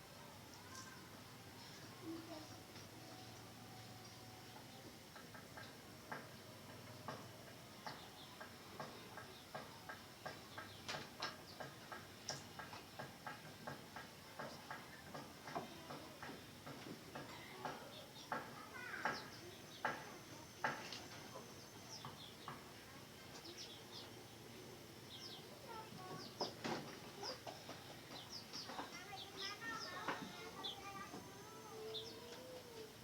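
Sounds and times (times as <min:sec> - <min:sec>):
faint regular tapping: 0:02.7 - 0:33.0.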